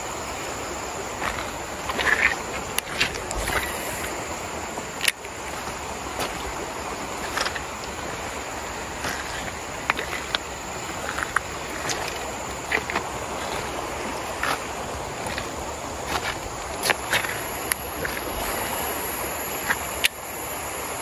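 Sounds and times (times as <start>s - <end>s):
river flowing: 0.0s - 21.0s.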